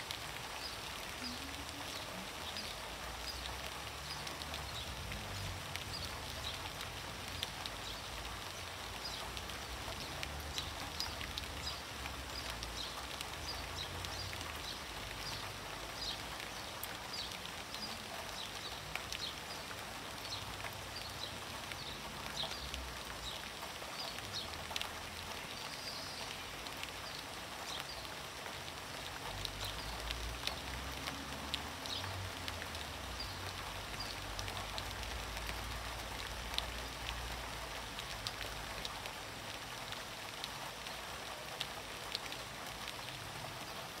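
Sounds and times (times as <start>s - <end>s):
rain splashing into a puddle: 0.0s - 44.0s.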